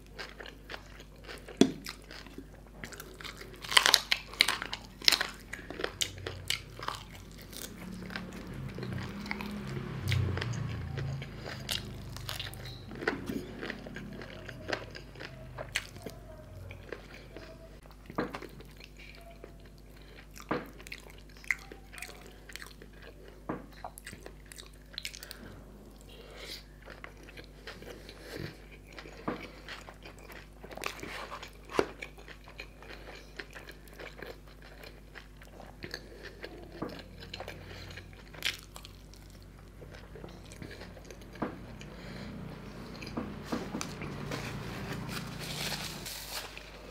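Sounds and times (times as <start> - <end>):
man chewing crunchy food: 0.0 - 46.9.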